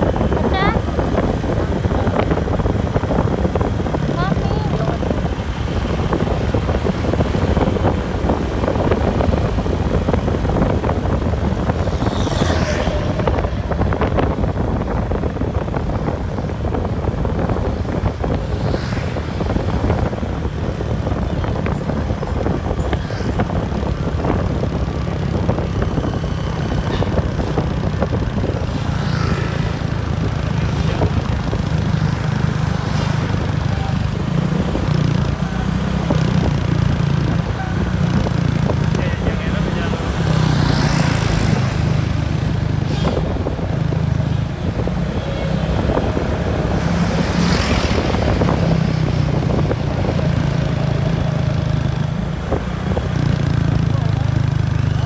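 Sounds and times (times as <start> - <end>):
road noise: 0.0 - 55.0
vehicle engine drone: 0.0 - 55.0.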